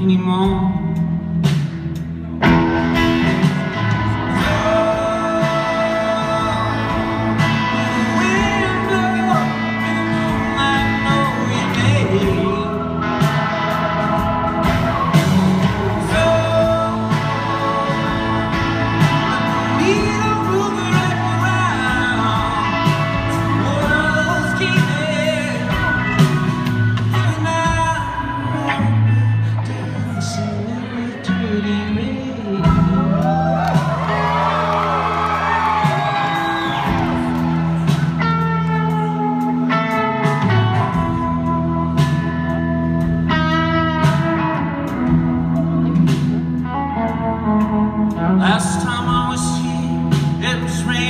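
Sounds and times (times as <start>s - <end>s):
bass and drum kit: 0.0s - 51.0s
electric guitars: 0.0s - 51.0s.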